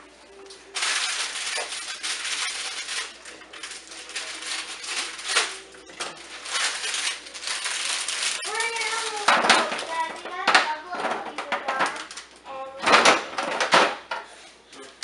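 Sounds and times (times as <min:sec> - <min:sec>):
plastic crinkling and rustling: 0:00.4 - 0:14.0.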